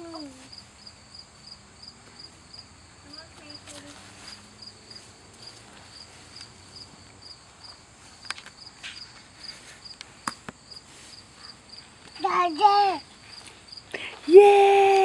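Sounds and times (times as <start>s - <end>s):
cricket chirping: 0.0s - 14.3s.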